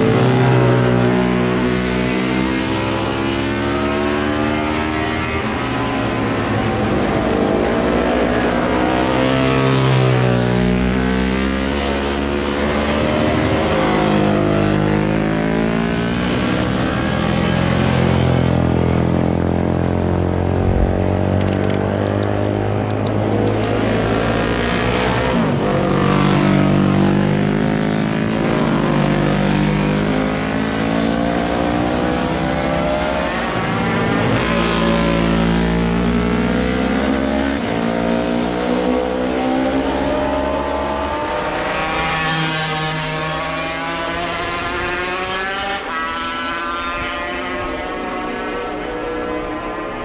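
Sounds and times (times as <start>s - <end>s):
motorcycles passing and accelerating: 0.0s - 50.0s.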